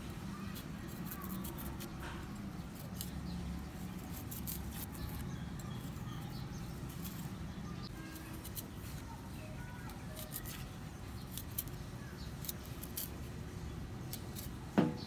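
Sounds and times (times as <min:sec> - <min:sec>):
knife scraping yam skin: 0:00.0 - 0:15.0.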